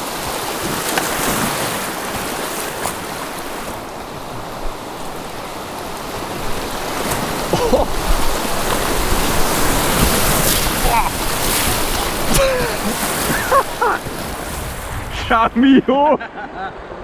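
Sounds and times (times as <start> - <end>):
water splash: 0.0 - 15.4
whitewater rushing: 0.0 - 16.2.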